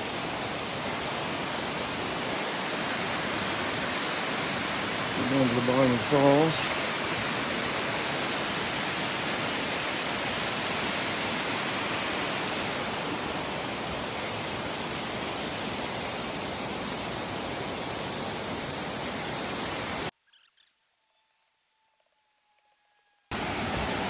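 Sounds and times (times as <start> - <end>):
waterfall roaring: 0.0 - 20.1, 23.3 - 24.0.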